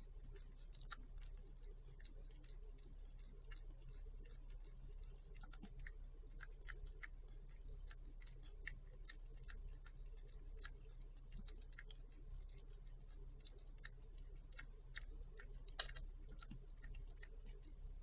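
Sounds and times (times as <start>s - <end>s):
steady low hum: 0.0s - 18.0s
wet mouth clicks of licking: 0.0s - 18.0s.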